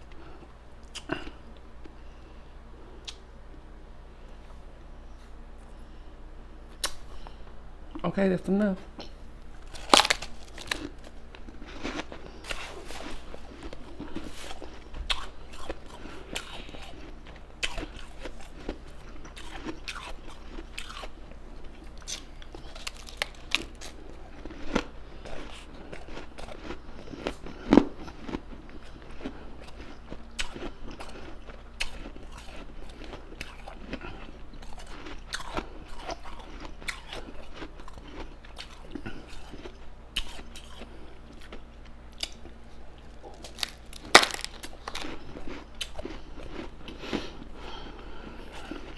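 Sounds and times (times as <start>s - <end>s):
ice crunching while chewed: 9.0s - 48.9s.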